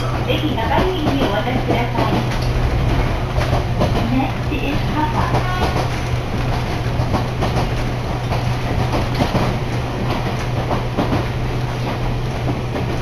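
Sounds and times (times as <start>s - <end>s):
train running hum: 0.0s - 13.0s
wheels knocking on track: 0.0s - 13.0s.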